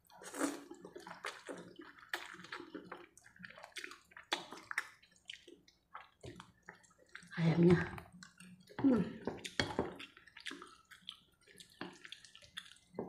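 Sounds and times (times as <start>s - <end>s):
slurping and chewing noodles: 0.0s - 7.4s, 8.0s - 13.0s.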